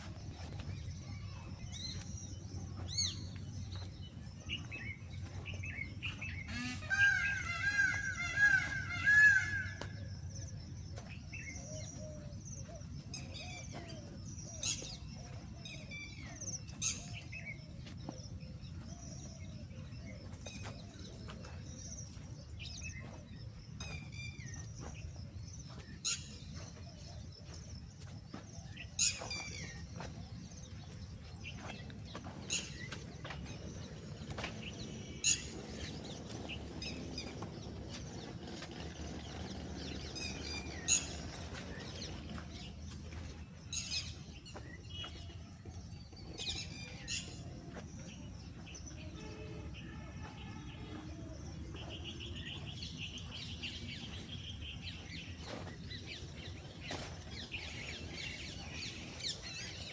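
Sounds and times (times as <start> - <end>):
birds chirping and calling: 0.0 - 59.9.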